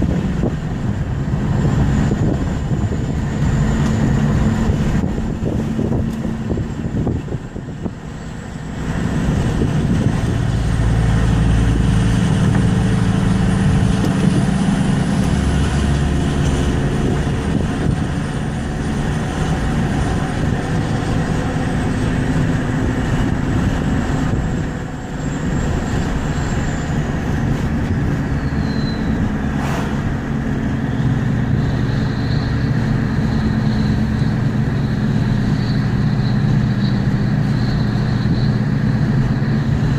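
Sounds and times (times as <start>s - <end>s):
diesel engine drone: 0.0s - 39.9s
turbocharger whistling: 0.0s - 39.9s.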